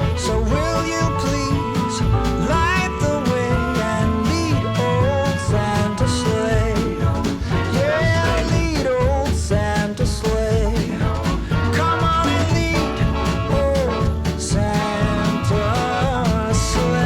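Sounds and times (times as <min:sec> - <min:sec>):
upbeat swing christmas song: 0:00.0 - 0:17.0.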